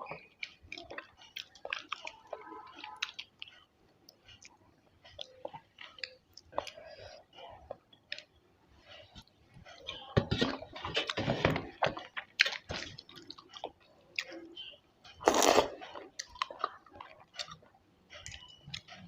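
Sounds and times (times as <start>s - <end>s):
wet chewing: 0.0s - 8.4s, 9.0s - 19.0s.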